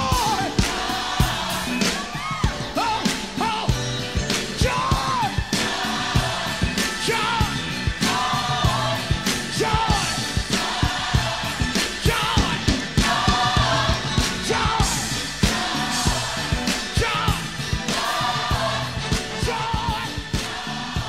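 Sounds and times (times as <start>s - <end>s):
band with drum beat: 0.0s - 21.0s
person singing gospel: 0.0s - 21.0s.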